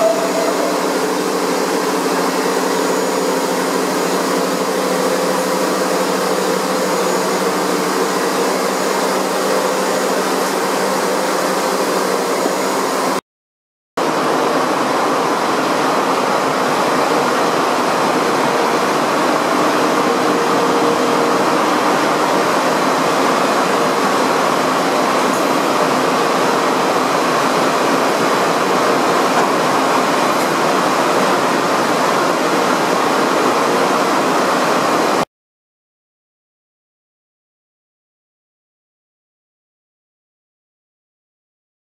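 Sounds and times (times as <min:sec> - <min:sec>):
factory machinery hum: 0:00.0 - 0:13.2, 0:14.0 - 0:35.3.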